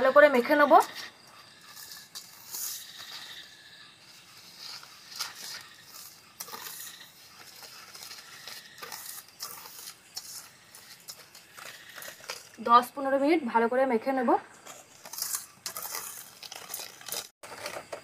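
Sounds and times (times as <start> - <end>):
whisk scraping a metal bowl: 0.0 - 12.7, 14.6 - 18.0.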